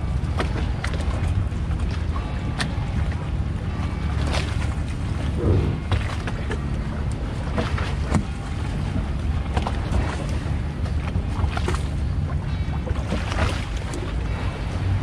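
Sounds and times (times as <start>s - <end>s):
boat engine rumbling: 0.0s - 15.0s
water splashing and slapping: 0.0s - 15.0s.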